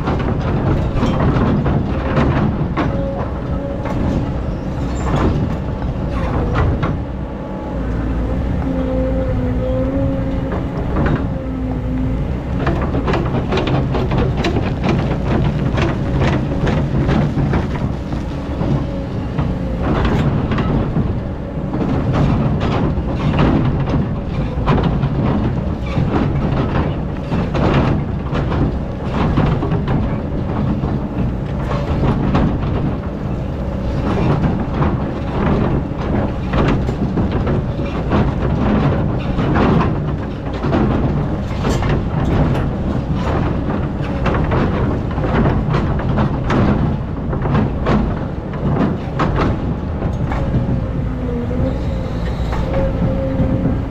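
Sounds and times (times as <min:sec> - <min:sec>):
bucket clanking and scraping: 0:00.0 - 0:07.2, 0:12.5 - 0:33.2, 0:34.0 - 0:50.9
excavator diesel engine running: 0:00.0 - 0:53.9.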